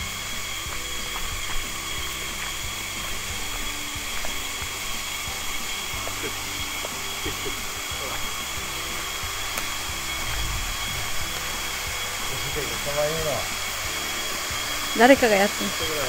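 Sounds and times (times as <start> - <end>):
high-pitched drone: 0.0 - 16.0
waterfall pouring into pool: 0.0 - 16.0.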